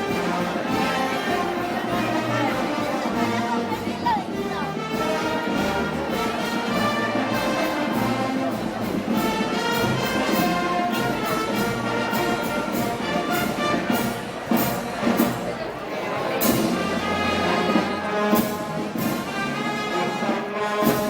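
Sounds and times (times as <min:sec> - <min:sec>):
percussion steady beat: 0:00.0 - 0:21.0
trumpets and trombones melody: 0:00.0 - 0:21.0.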